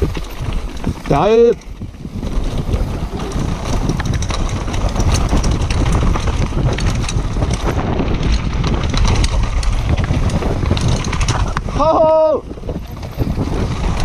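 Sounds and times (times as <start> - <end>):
bike rattling and knocking: 0.0 - 14.0
tyres running on dirt: 0.0 - 14.0
wind buffeting microphone: 0.0 - 14.0.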